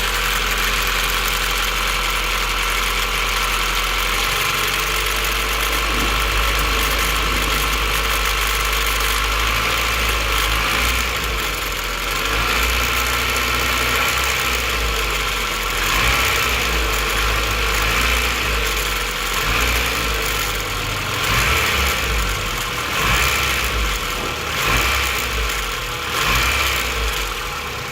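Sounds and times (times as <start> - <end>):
car engine idling: 0.0 - 27.9
engine rattle: 0.0 - 27.9.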